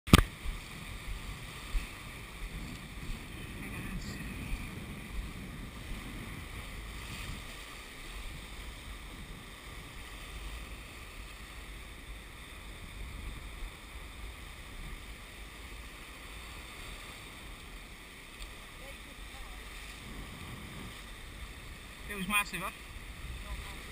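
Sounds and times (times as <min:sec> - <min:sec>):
small waves breaking: 0:00.1 - 0:23.9
wind noise on microphone: 0:00.1 - 0:23.9.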